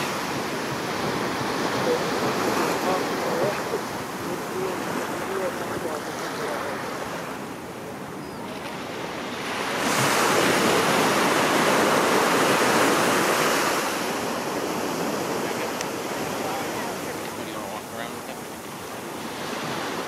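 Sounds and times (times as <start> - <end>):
small waves breaking on a beach: 0.0 - 20.0.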